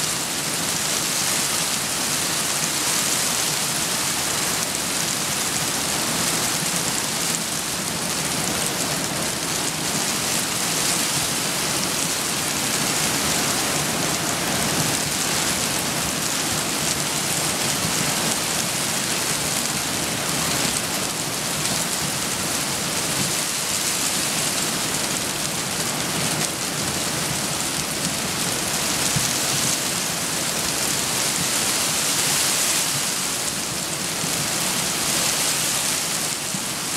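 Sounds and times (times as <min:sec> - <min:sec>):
heavy rain hiss: 0:00.0 - 0:36.9
rushing stream: 0:00.0 - 0:36.9.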